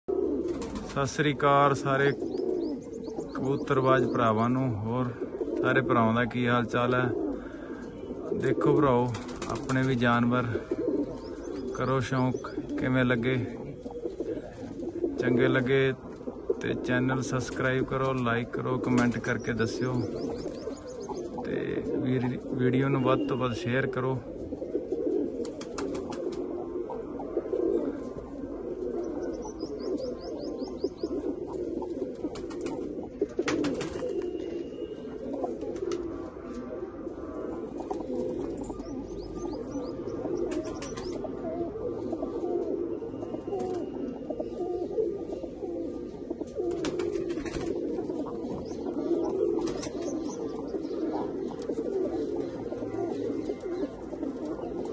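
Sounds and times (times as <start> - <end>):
pigeons cooing: 0.0 - 54.9.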